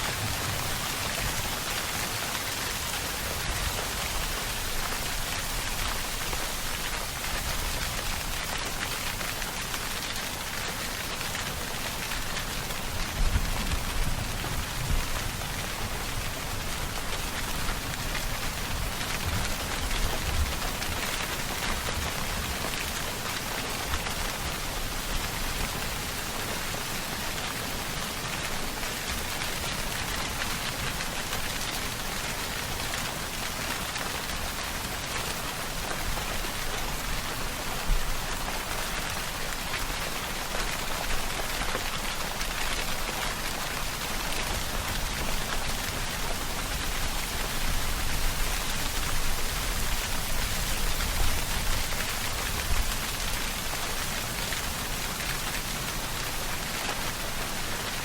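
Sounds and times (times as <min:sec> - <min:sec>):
louder raindrops: 0:00.0 - 0:58.0
rain pattering: 0:00.0 - 0:58.0.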